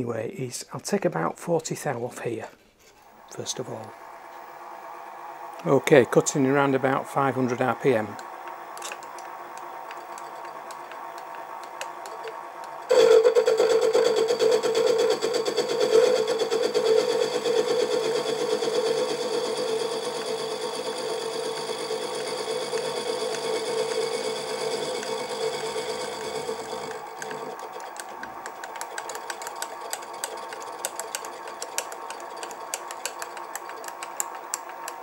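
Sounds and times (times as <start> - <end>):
mini mill motor running: 3.2 - 35.0
end mill cutting metal: 3.3 - 35.0.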